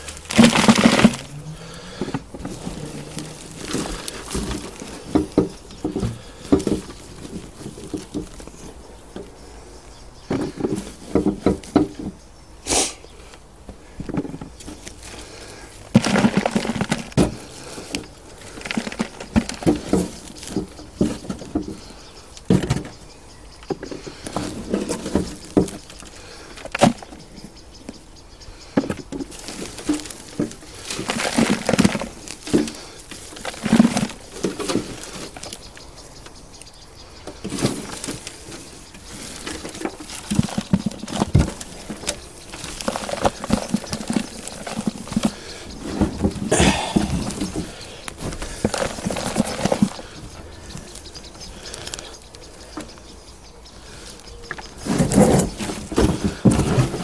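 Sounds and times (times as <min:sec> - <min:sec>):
hands rustling through compost: 0:00.0 - 0:57.0.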